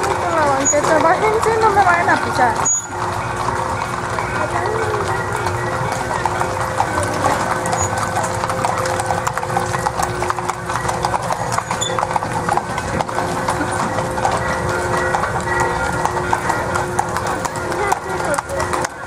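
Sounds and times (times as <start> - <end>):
hooves clip-clopping on pavement: 0.0 - 19.0.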